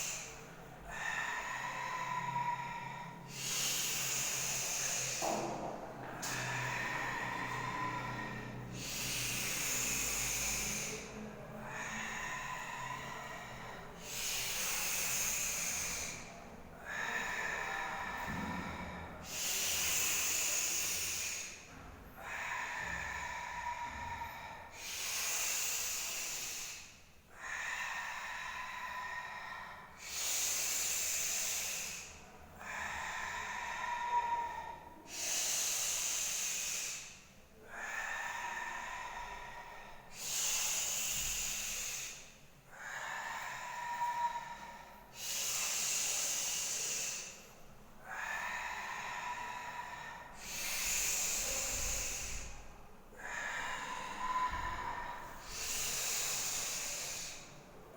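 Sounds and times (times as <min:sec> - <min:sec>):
person breathing hissing breaths: 0:00.0 - 0:57.9.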